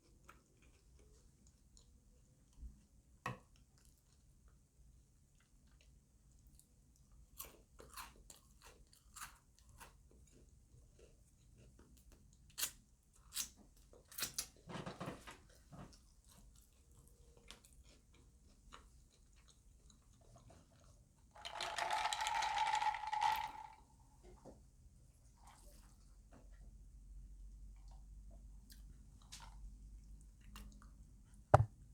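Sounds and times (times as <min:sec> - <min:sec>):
chewing and crunching food: 0:00.0 - 0:23.6, 0:25.2 - 0:31.5.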